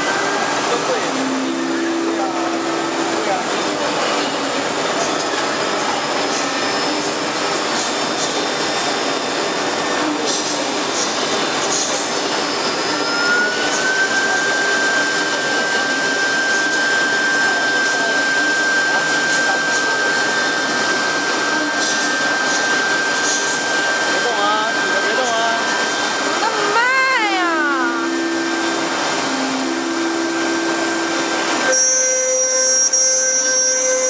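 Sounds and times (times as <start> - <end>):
cnc router spindles whining: 0.0 - 34.0.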